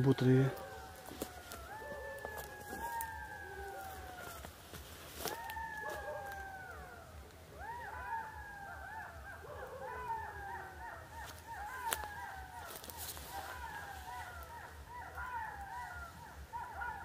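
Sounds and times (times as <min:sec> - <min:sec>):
canines howling: 0:00.0 - 0:17.0.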